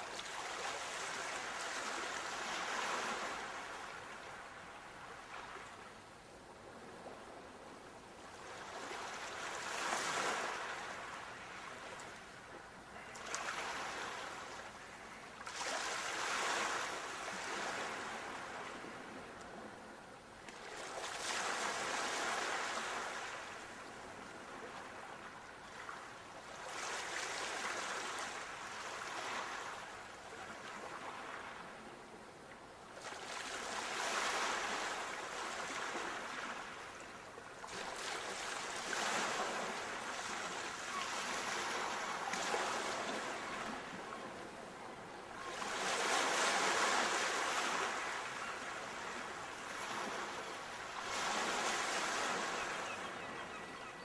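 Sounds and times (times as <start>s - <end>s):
sea waves breaking on shore: 0.0s - 6.0s, 6.7s - 31.9s, 32.9s - 54.0s.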